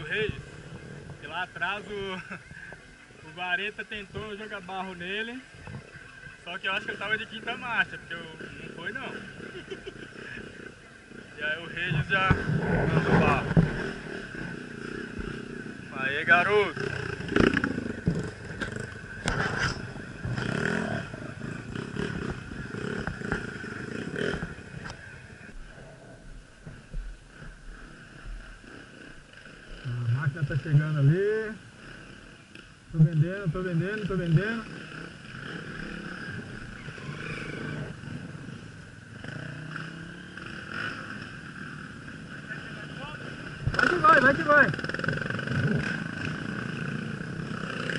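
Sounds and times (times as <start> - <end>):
dirt bike engine revving: 0.0 - 25.9, 26.7 - 47.9.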